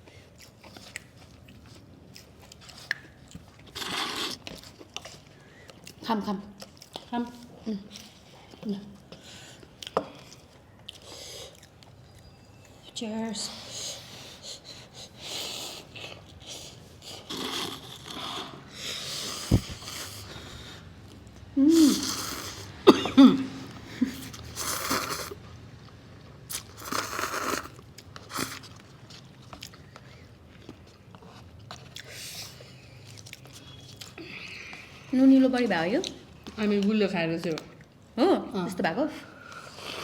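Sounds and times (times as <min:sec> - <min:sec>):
crunching and chewing food: 0:00.0 - 0:22.8, 0:23.7 - 0:38.1.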